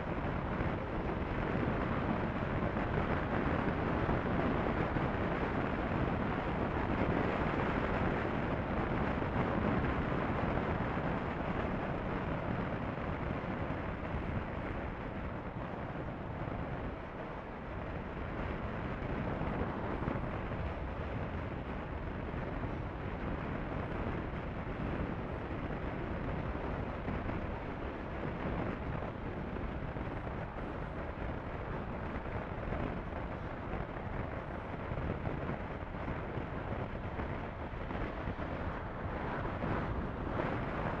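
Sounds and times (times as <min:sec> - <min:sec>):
motorcycle engine and tyre noise: 0:00.0 - 0:41.0
wind rushing over microphone: 0:00.0 - 0:41.0.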